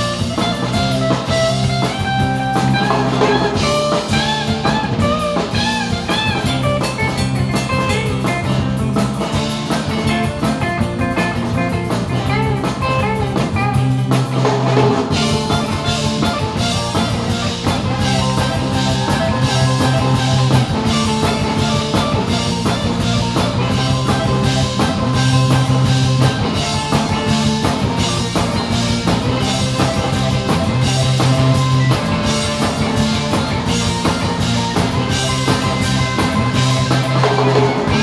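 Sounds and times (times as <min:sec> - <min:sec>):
bass guitar: 0:00.0 - 0:38.0
drum kit beat: 0:00.0 - 0:38.0
electric guitars: 0:00.0 - 0:38.0.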